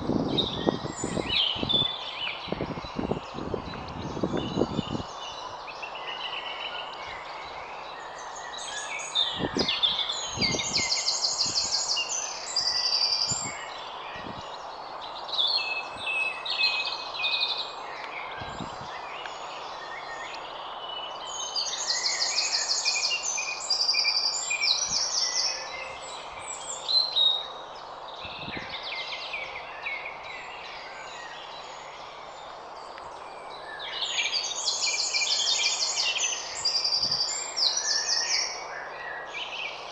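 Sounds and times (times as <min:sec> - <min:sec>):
bird song with high trill: 0:00.0 - 0:39.9
birds singing and chirping: 0:00.0 - 0:39.9.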